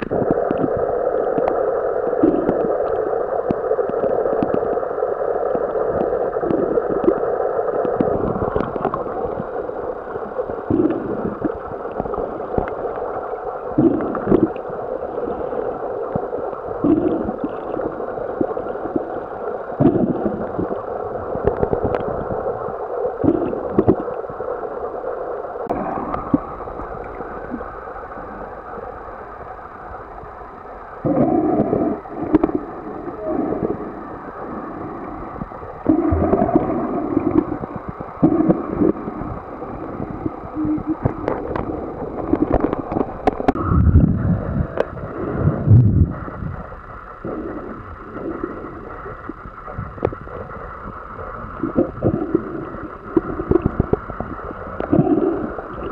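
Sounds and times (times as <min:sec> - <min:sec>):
underwater hum: 0:00.0 - 0:55.9.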